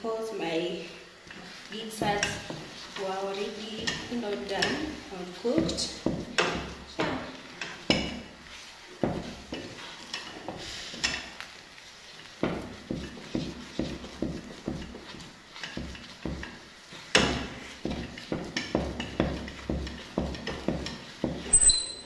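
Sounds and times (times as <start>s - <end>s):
wooden stick knocking a saucepan: 2.0s - 11.4s, 12.4s - 21.8s.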